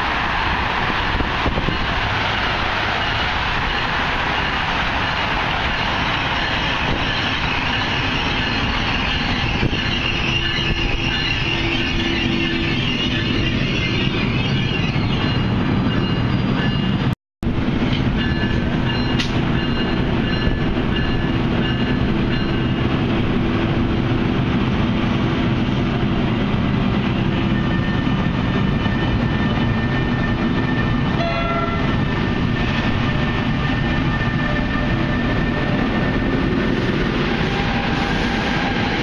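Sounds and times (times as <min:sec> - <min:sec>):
electric locomotive hum and whine: 0:00.0 - 0:39.0.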